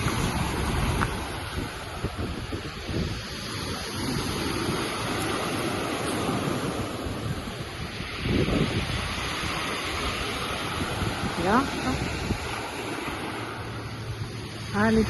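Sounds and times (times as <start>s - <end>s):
sea waves washing ashore: 0.0s - 15.0s
wind buffeting microphone: 0.0s - 15.0s.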